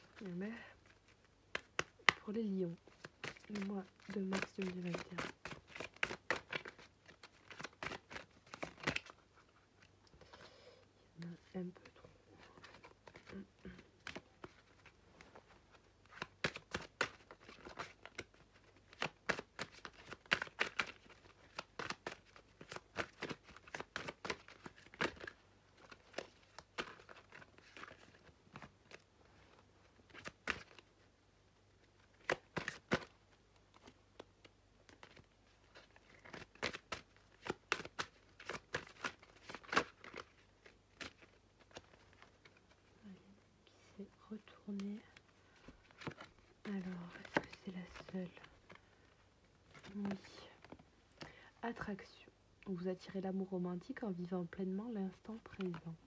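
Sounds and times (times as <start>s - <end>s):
cards being shuffled: 0.0s - 10.2s, 11.2s - 31.0s, 31.9s - 42.9s, 44.7s - 50.9s.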